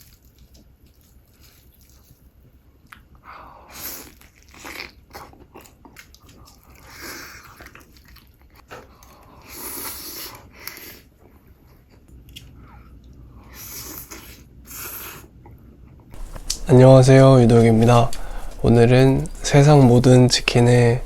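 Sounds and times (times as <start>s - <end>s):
crunchy chewing of chicken: 0.0s - 15.2s, 16.2s - 21.0s.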